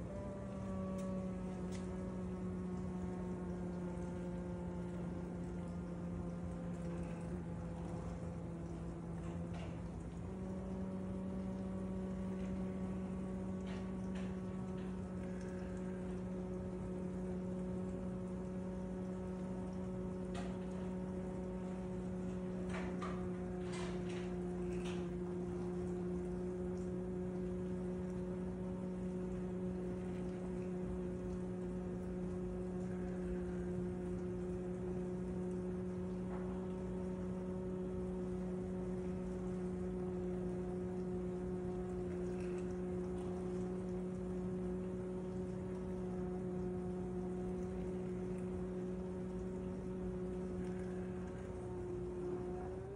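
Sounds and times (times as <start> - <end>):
dishwasher humming: 0.0 - 52.9.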